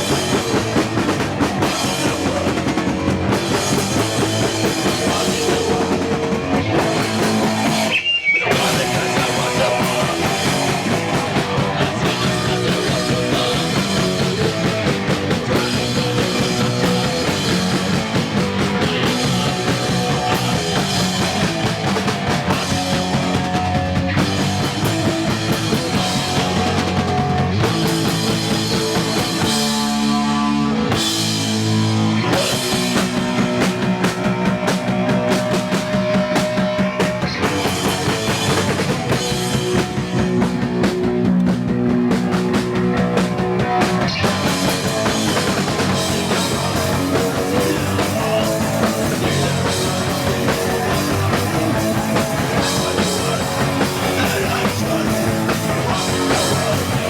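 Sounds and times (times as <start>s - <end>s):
low guitar notes: 0.0s - 57.0s
punk rock band playing live: 0.0s - 57.0s.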